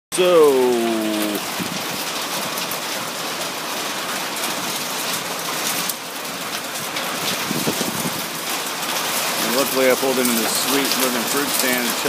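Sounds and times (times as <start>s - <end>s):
heavy rain falling: 0.1s - 12.0s.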